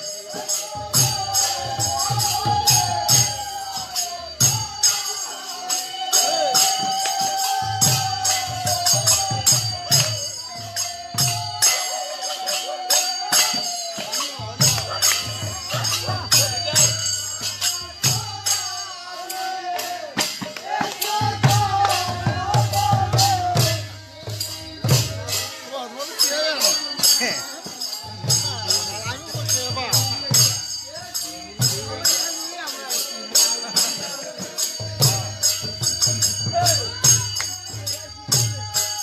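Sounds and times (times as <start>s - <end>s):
hand cymbals clashing: 0.0s - 39.0s
voices singing devotional song: 0.0s - 39.0s.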